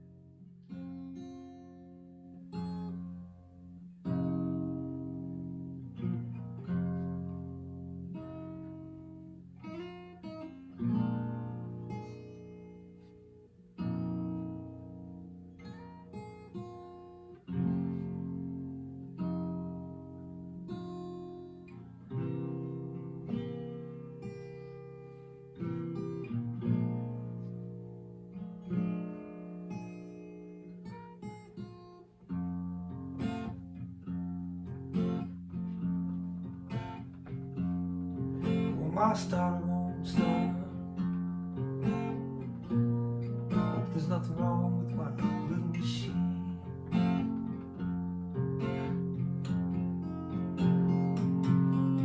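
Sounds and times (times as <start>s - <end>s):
solo blues guitar: 0.0s - 52.0s.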